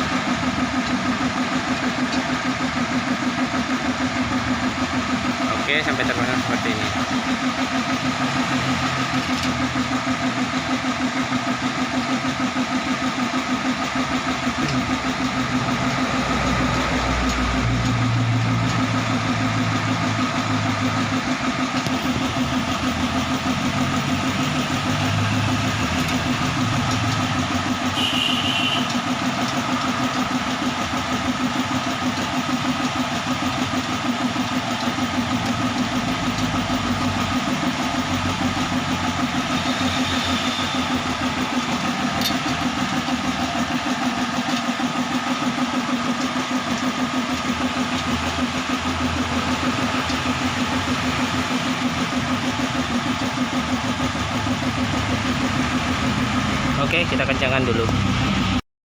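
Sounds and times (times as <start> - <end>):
motor running with fast pulse: 0.0 - 58.6.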